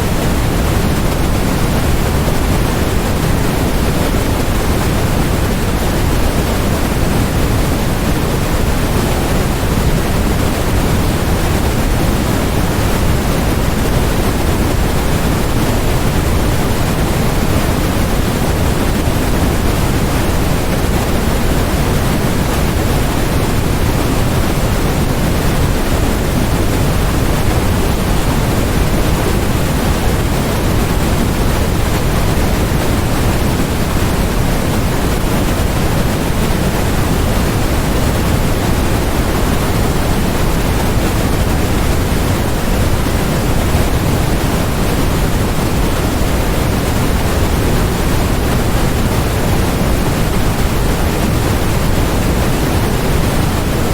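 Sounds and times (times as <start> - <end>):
low-heavy generated hiss: 0.0 - 53.9.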